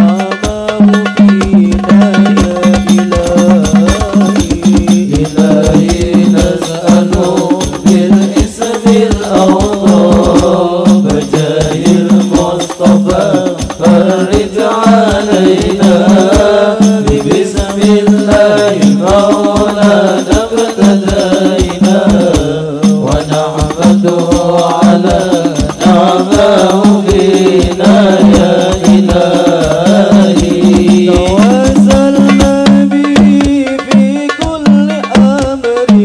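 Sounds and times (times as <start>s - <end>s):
frame drums beating: 0.0s - 36.0s
men singing devotional song: 0.0s - 36.0s.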